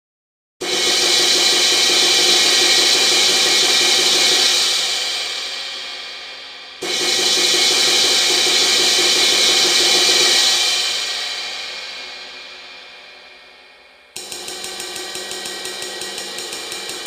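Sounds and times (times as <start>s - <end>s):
cymbal roll: 0.6s - 17.0s.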